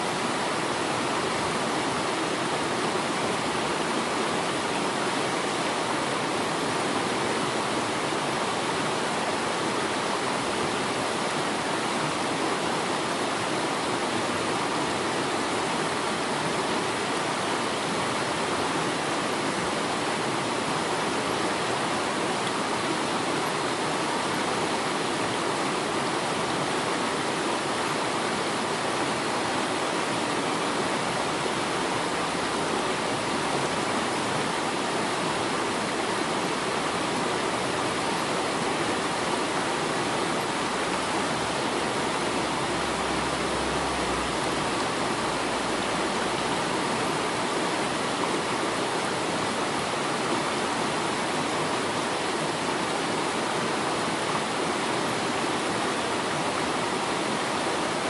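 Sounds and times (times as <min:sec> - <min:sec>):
waterfall rushing water: 0:00.0 - 0:58.0.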